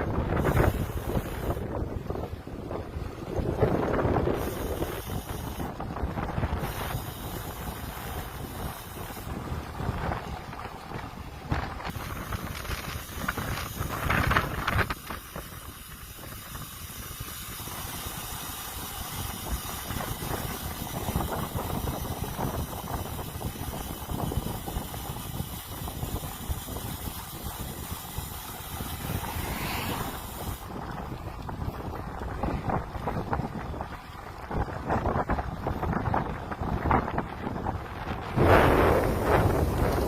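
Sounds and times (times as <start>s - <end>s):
wind rushing on microphone: 0.0s - 40.0s.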